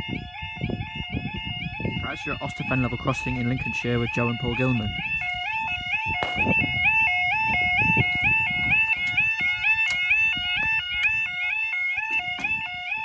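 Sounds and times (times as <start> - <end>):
two-tone warning alarm: 0.0 - 13.0.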